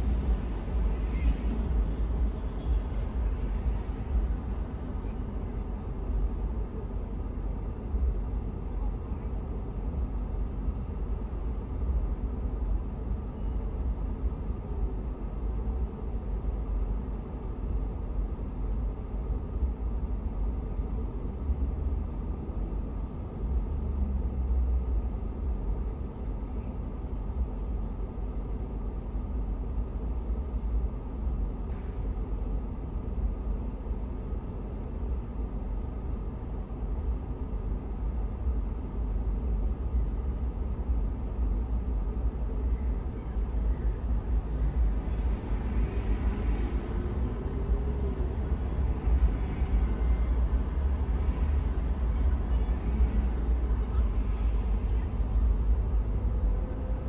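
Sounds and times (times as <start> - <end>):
car interior low rumble: 0.0 - 57.0.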